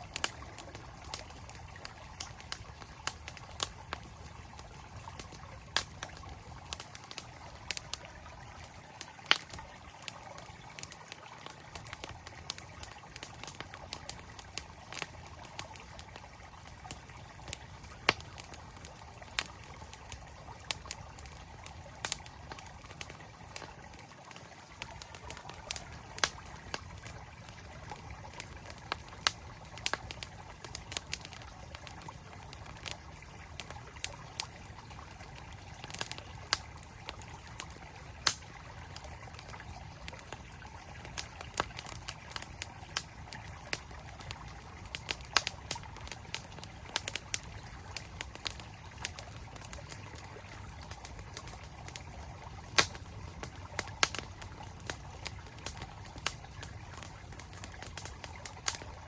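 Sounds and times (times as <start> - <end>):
campfire crackling: 0.0 - 59.0
flowing stream: 0.0 - 59.0.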